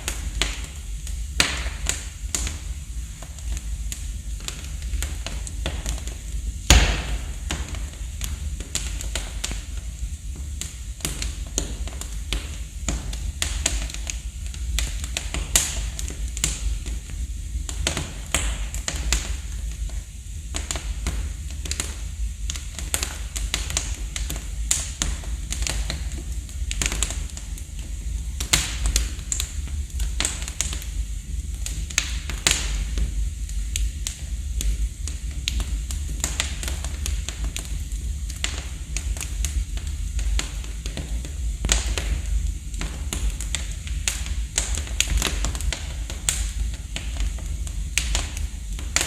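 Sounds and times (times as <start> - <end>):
low steady rumble: 0.0 - 49.0
wood fire crackling and popping: 0.0 - 49.0.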